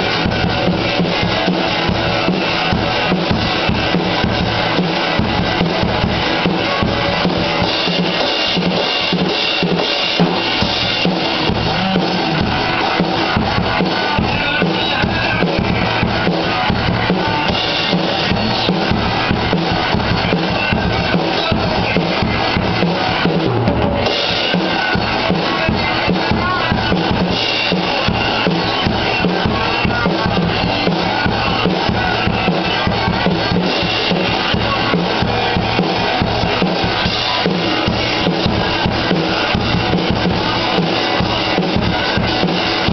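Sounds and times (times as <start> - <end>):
drum kit playing: 0.0 - 42.9
recorded rock song: 0.0 - 42.9.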